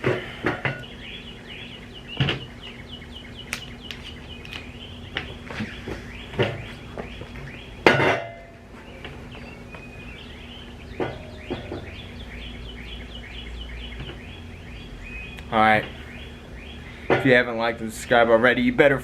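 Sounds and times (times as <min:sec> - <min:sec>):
bird chirping: 0:00.0 - 0:18.8.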